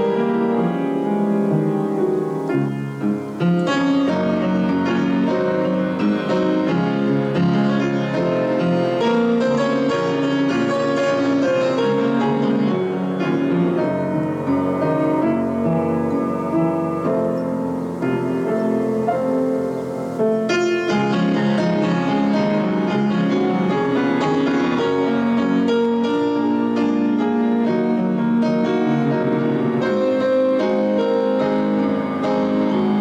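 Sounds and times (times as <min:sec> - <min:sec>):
piano chords and melody: 0:00.0 - 0:33.0.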